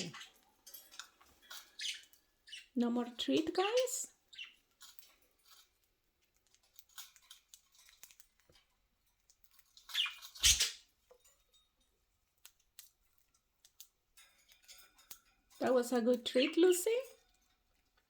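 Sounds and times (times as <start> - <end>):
birds pecking small clicks: 0.1 - 2.7, 3.4 - 11.5, 12.2 - 18.0.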